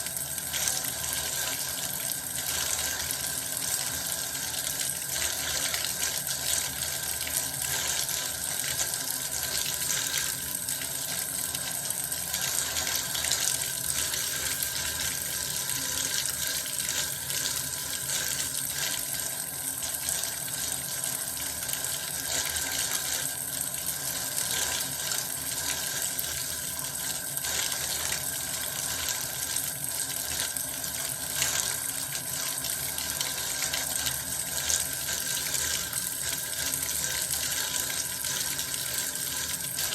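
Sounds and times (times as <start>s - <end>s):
bath water running from tap: 0.0s - 39.9s.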